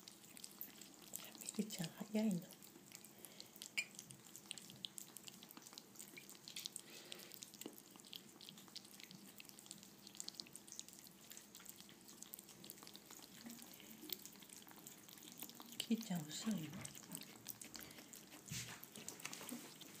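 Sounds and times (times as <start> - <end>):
ferrets lapping and chewing: 0.0 - 20.0.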